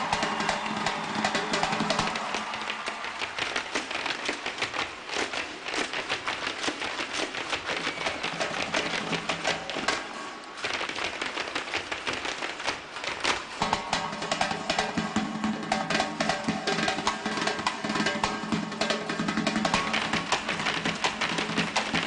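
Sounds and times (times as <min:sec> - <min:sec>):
rapid drum beats: 0:00.0 - 0:22.0.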